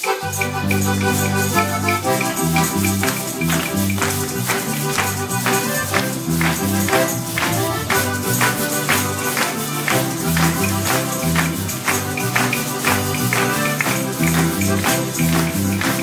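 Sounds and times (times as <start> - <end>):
live band playing: 0.0 - 16.0
tambourine beat: 0.0 - 16.0
bass line: 0.3 - 16.0.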